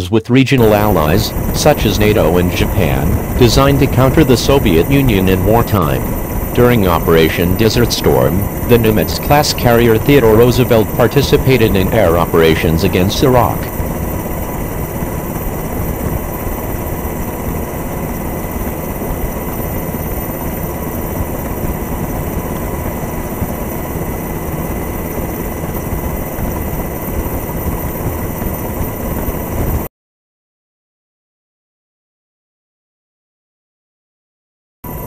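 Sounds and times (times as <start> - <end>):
constant high whine: 0.6 - 29.9
helicopter engine and rotor noise: 0.6 - 29.9.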